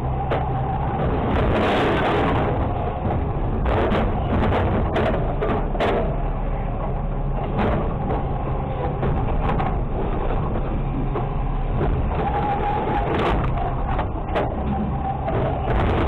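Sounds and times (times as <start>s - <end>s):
garbage truck engine and hydraulics: 0.0s - 16.0s.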